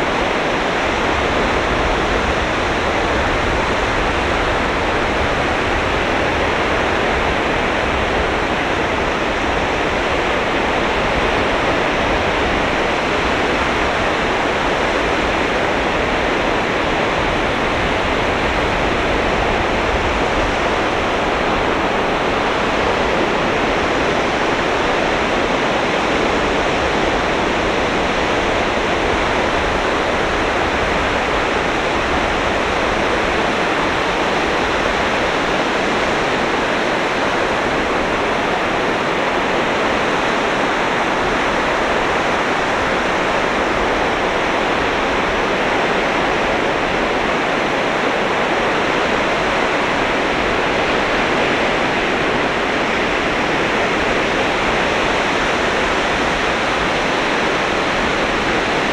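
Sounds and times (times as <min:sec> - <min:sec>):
surf washing onto beach: 0:00.0 - 0:58.9.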